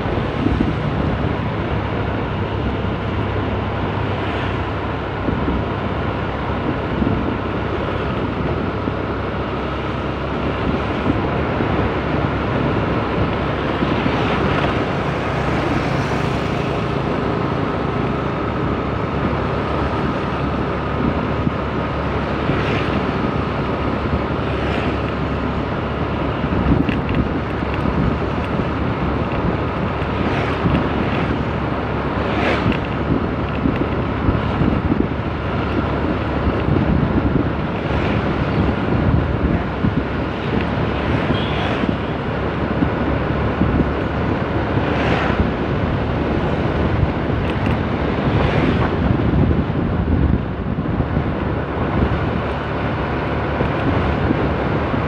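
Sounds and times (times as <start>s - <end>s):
road noise: 0.0s - 55.0s
wind rushing over microphone: 0.0s - 55.0s.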